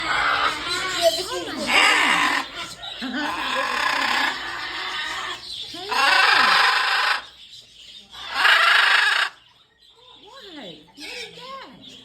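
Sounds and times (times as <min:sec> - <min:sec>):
parrots screeching: 0:00.0 - 0:07.4, 0:08.1 - 0:09.6, 0:10.9 - 0:11.6.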